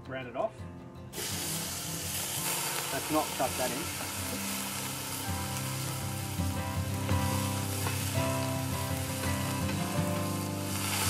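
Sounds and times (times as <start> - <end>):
background music: 0.0 - 11.0
beef sizzling in hot oil: 1.2 - 11.0.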